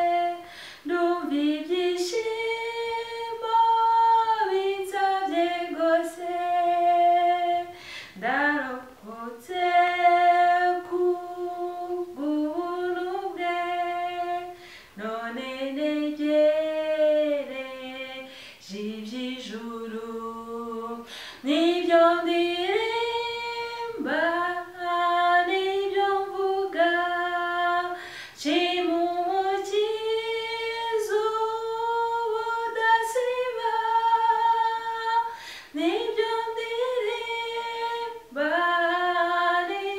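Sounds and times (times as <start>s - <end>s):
woman singing a hymn: 0.0s - 39.9s.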